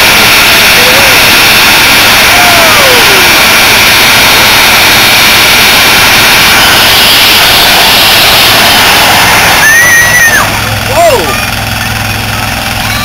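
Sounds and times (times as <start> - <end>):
engines at high revs: 0.0 - 13.0
tyres spinning on pavement: 1.4 - 13.0.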